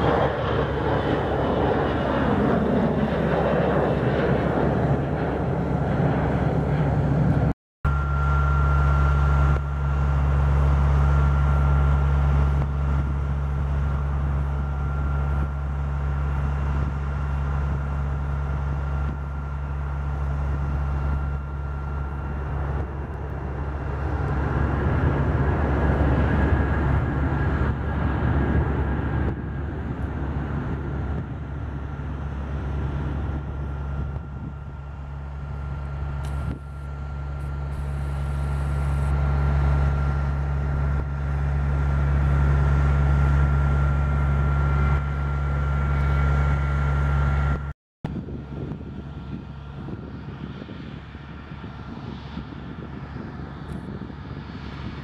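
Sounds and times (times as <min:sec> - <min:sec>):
jet engine whine and rumble: 0:00.0 - 0:55.0
taxiing jet engines: 0:00.0 - 0:55.0.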